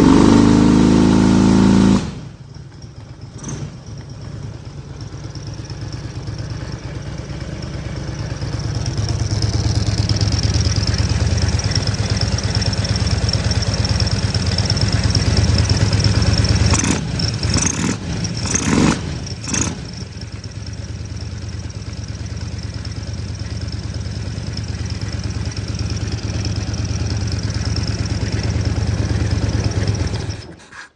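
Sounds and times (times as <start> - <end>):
vehicle engine rumbling: 0.0 - 30.9.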